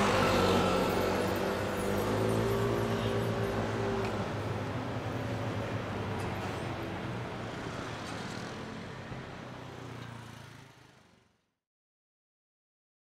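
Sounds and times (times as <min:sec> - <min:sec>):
road traffic with engine hum: 0:00.0 - 0:11.6.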